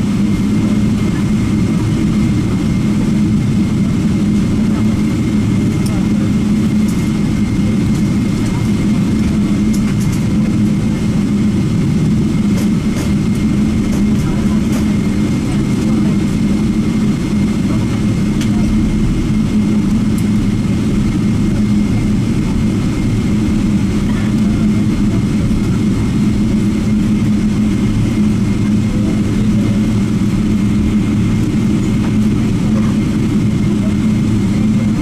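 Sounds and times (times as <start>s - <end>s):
jet engines droning in cabin: 0.0s - 35.0s.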